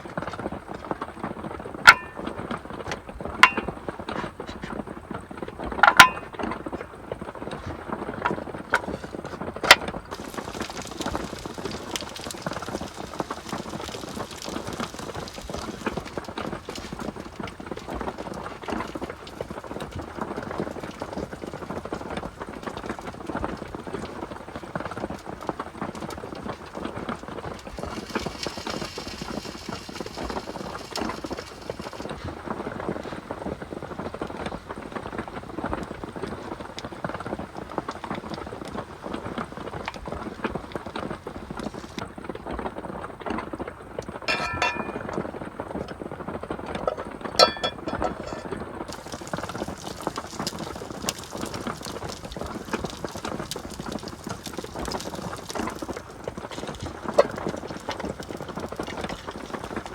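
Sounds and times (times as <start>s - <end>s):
heavy rain on a roof: 6.8s - 44.2s, 48.9s - 59.9s.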